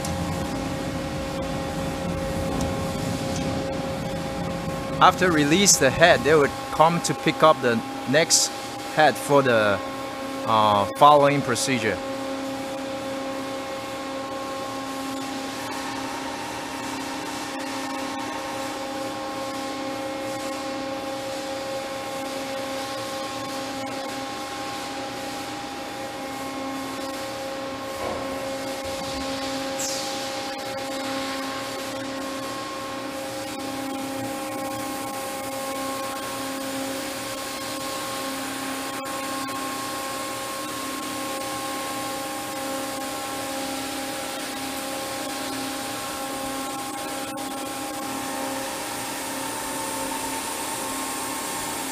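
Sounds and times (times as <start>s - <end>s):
machine whine: 0.0s - 21.1s, 26.4s - 51.9s.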